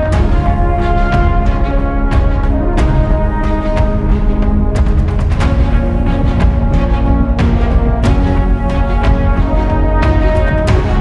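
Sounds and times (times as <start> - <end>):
held music chords: 0.0 - 11.0.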